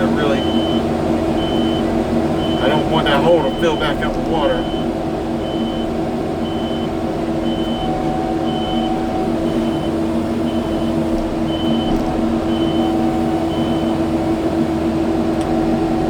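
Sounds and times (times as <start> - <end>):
backup alarm beeping: 0.0 - 14.6
diesel engine running: 0.0 - 16.0.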